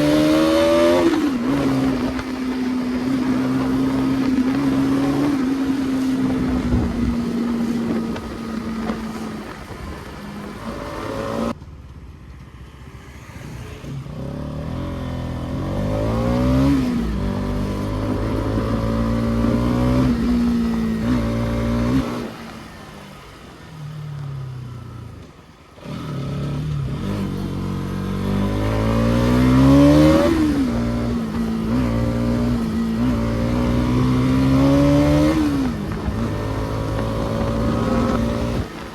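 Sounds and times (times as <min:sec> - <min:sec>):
motorcycle engine accelerating: 0:00.0 - 0:11.7, 0:12.6 - 0:38.9
wind and road noise: 0:00.0 - 0:38.9.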